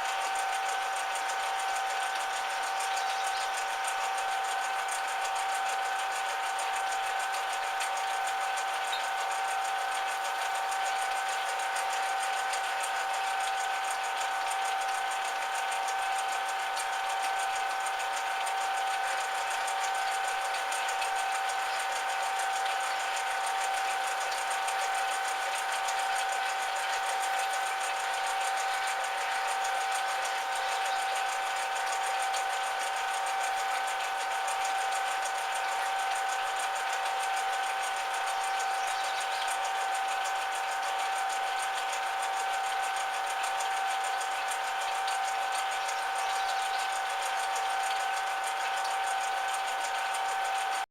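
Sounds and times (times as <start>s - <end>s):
metal lathe whining: 0.0s - 50.9s.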